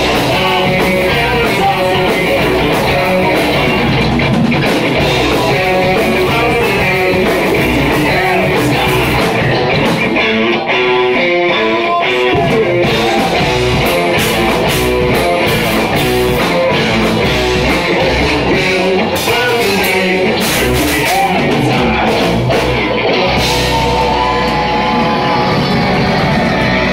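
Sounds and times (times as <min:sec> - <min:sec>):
person singing: 0:00.0 - 0:04.0, 0:05.0 - 0:26.9
heavy metal band playing: 0:00.0 - 0:26.9.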